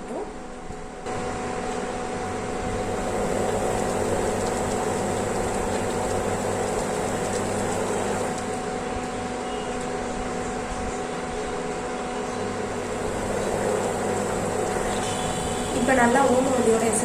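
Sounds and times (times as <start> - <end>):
induction stove humming: 0.0 - 17.0
water boiling in a pan: 1.1 - 10.4, 11.6 - 17.0.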